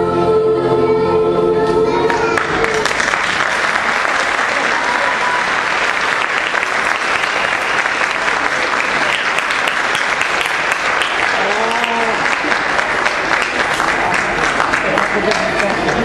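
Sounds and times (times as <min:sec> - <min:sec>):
audience applauding: 0:02.1 - 0:16.0.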